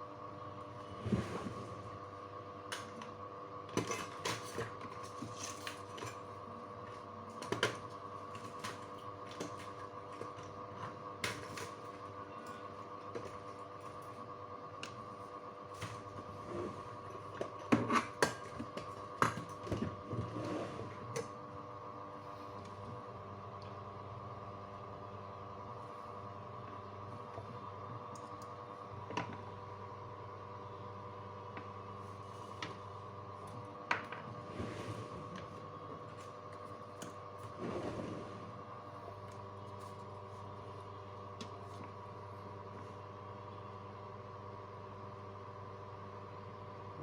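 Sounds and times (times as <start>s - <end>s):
steady hum with faint whine: 0.0s - 47.0s.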